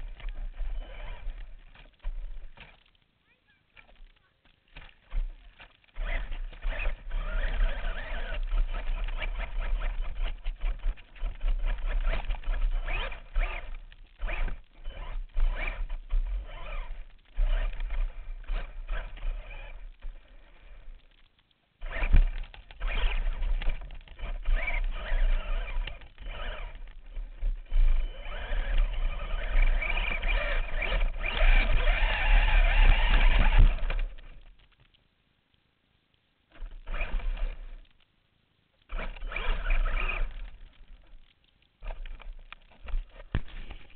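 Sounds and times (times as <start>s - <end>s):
toy car motor whining: 0.0s - 2.8s, 4.8s - 21.1s, 21.8s - 34.5s, 36.5s - 37.9s, 38.9s - 41.2s.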